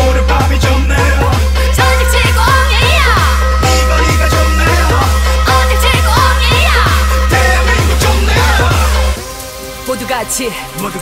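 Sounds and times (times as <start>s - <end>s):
heavy bass: 0.0s - 9.9s
electronic hip-hop dance music: 0.0s - 11.0s.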